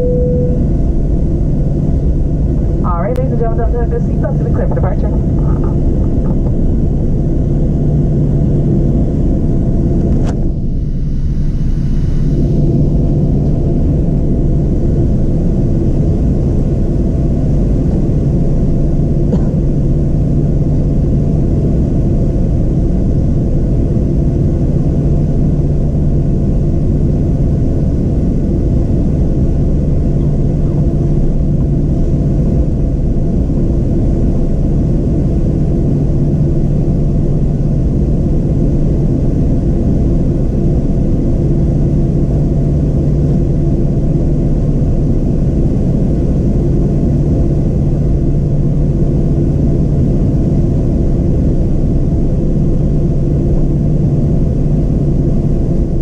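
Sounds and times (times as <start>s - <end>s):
jet engines droning in cabin: 0.0s - 56.0s.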